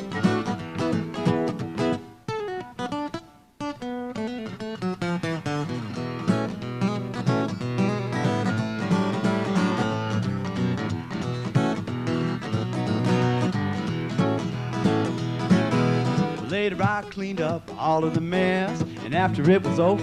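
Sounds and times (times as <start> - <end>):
acoustic guitar picking and strumming: 0.0 - 20.0.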